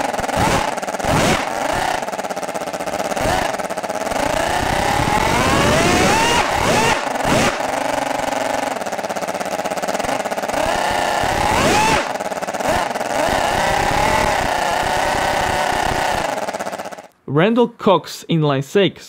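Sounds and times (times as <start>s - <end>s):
model rotary engine revving: 0.0s - 17.1s.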